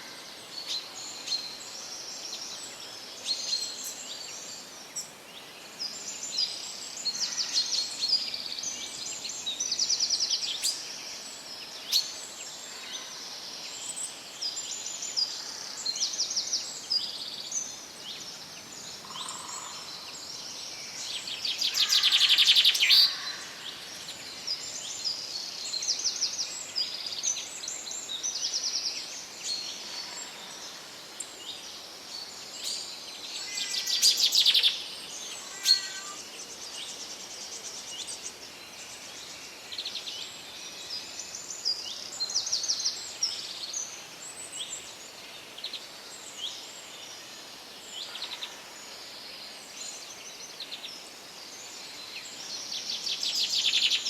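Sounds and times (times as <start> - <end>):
forest ambience hiss: 0.0 - 54.0
songbirds singing: 0.0 - 54.0.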